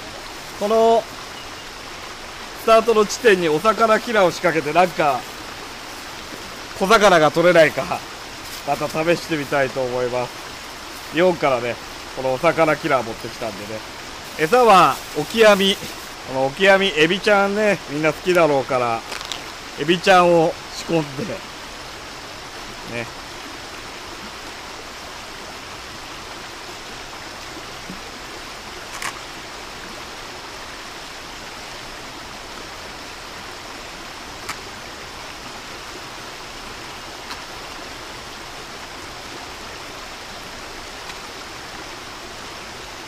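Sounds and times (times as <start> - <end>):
stream flowing: 0.0 - 43.0.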